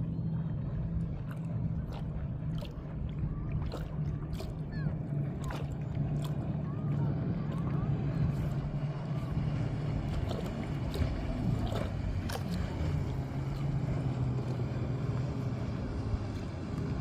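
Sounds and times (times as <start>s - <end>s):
constant low hum: 0.0s - 17.0s
small splashes: 0.0s - 17.0s
water rushing: 0.0s - 17.0s.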